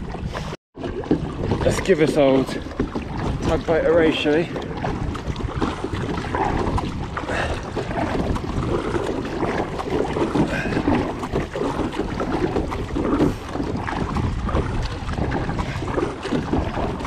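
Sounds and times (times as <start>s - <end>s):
kayak paddling water noise: 0.0s - 17.0s
wind buffeting microphone: 0.0s - 17.0s.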